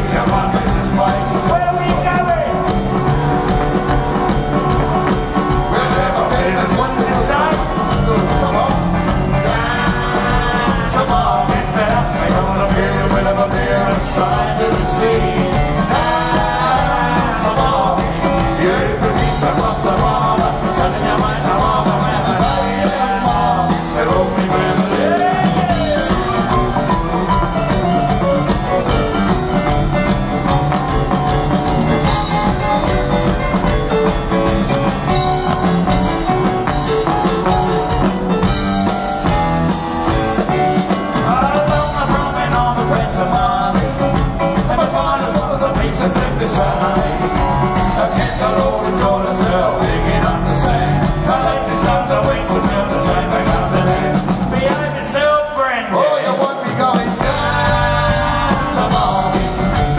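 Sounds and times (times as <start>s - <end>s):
person singing lead vocal: 0.0s - 39.4s, 40.1s - 59.9s
rock and roll band playing: 0.0s - 59.9s.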